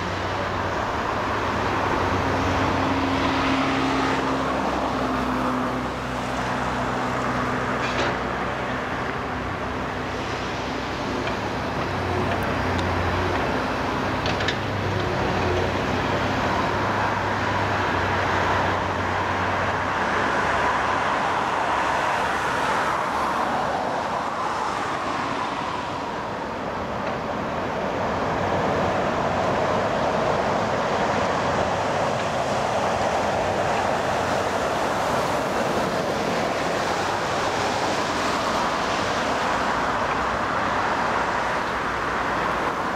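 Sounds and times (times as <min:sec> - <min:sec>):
road traffic: 0:00.0 - 0:42.9.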